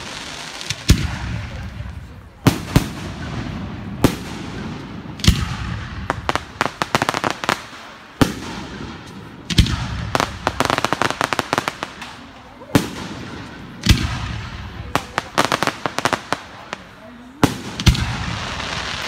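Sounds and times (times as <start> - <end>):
fireworks bangs: 0.0 - 19.0
fireworks crackling: 0.0 - 19.0.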